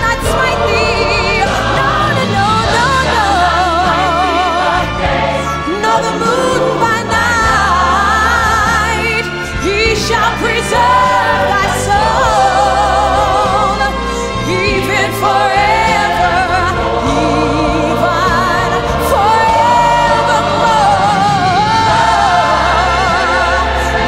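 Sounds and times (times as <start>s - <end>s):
instrumental accompaniment with bass: 0.0s - 24.0s
woman singing gospel: 0.0s - 24.0s.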